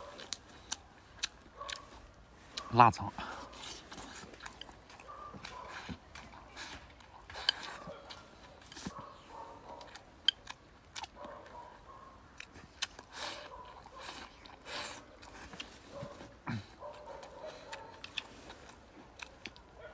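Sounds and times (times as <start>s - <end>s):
slurping and chewing: 0.0s - 19.8s.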